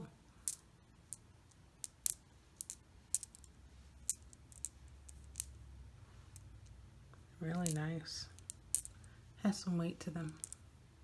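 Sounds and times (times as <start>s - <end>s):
porcelain beads clicking together: 0.4s - 5.7s, 6.3s - 9.2s, 10.1s - 10.7s.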